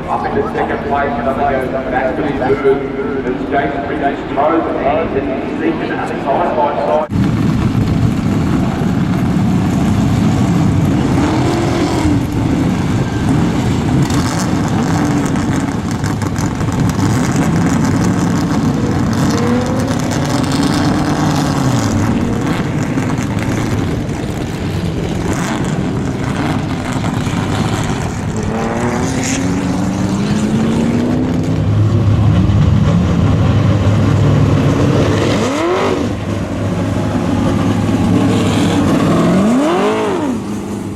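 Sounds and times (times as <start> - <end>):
race car engines revving: 0.0 - 40.9.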